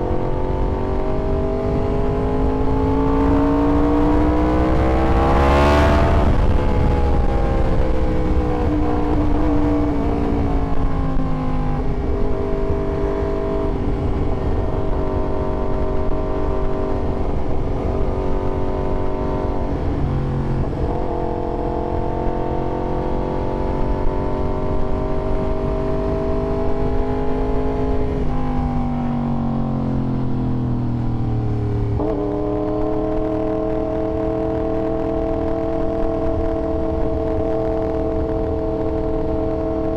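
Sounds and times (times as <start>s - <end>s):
sport motorcycle engine revving: 0.0s - 28.6s, 31.6s - 39.9s.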